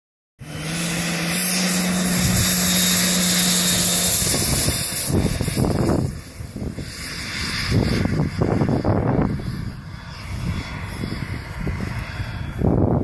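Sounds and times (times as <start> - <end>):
model jet engine hissing: 0.4 - 13.0
gusty rumbling: 0.6 - 13.0.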